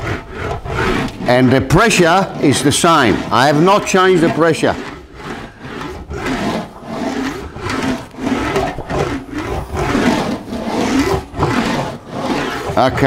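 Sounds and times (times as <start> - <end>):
metal wheel rubbing sheet metal: 0.0 - 13.0.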